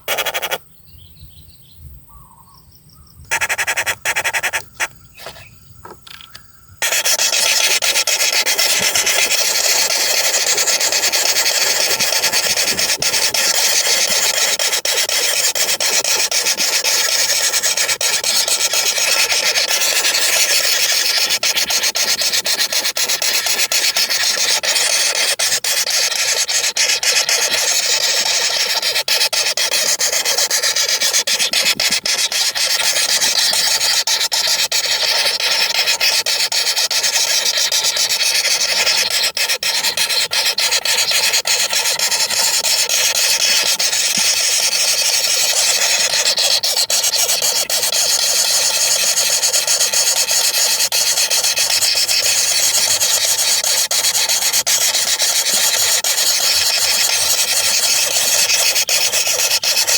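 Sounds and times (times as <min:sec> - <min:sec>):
nestlings begging with rasping buzz: 0:00.0 - 0:00.7, 0:03.2 - 0:59.9.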